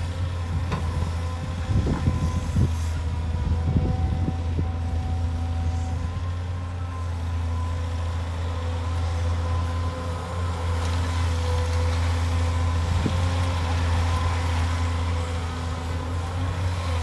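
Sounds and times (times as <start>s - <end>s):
excavator diesel engine running: 0.0s - 17.0s
steady hydraulic whine: 0.0s - 17.0s.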